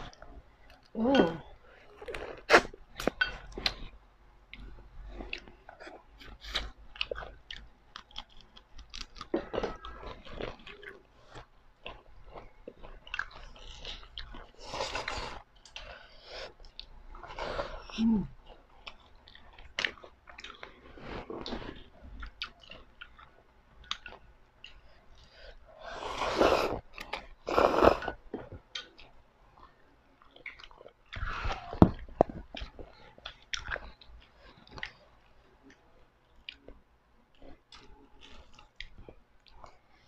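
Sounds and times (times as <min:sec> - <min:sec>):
chewing and crunching food: 0:00.0 - 0:26.0, 0:26.8 - 0:40.0.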